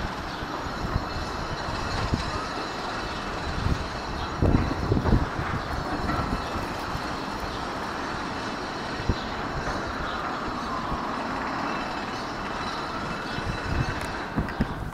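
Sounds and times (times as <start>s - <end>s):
subway cars rumbling: 0.0s - 14.9s
train wheel squeal: 0.0s - 14.9s.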